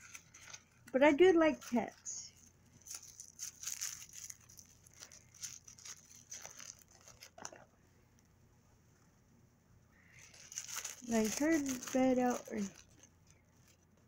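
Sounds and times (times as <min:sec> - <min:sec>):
packaging tearing and crinkling: 0:00.0 - 0:07.7, 0:10.2 - 0:13.9.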